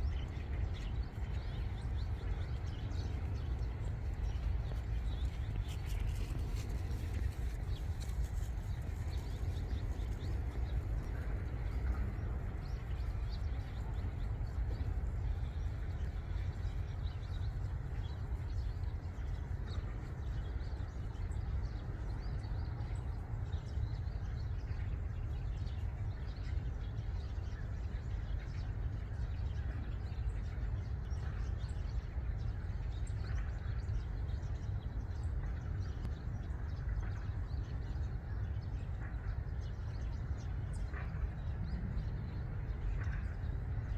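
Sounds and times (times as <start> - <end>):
sparrows chirping: 0.0 - 43.9
steady low rumble: 0.0 - 43.9.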